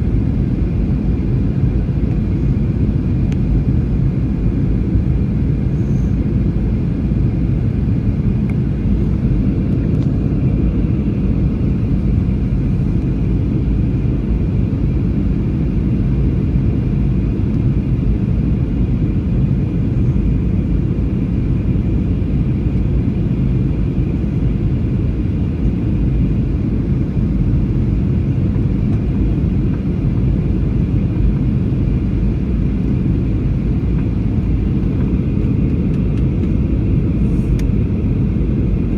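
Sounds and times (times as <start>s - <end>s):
faint high hum: 0.0s - 38.9s
jet engine cabin rumble: 0.0s - 38.9s.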